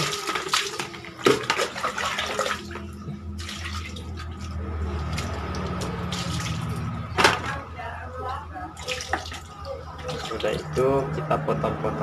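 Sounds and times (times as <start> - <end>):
running water: 0.0 - 7.6, 8.2 - 11.2
water splashing in plastic bucket: 0.0 - 7.6, 8.8 - 10.8.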